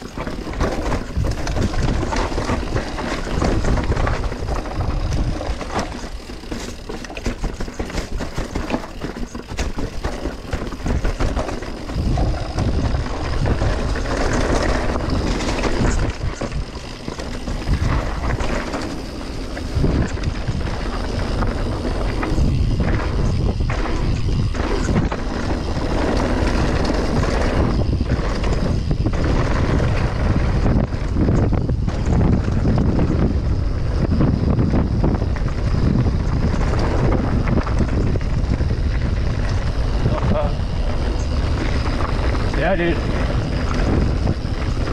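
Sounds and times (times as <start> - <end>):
bike rattling: 0.0 - 44.9
tyres rolling over dirt: 0.0 - 44.9
wind buffeting microphone: 0.0 - 44.9.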